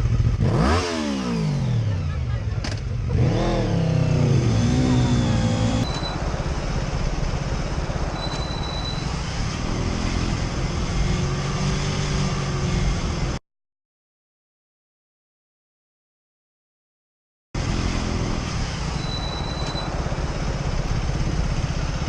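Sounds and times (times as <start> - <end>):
motorcycle engine revving: 0.0 - 13.4, 17.6 - 22.0.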